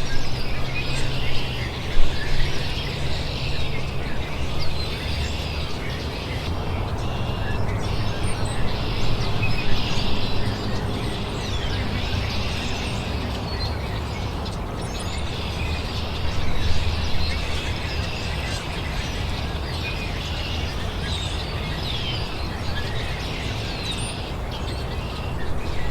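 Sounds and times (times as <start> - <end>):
songbirds chirping: 0.0 - 25.9.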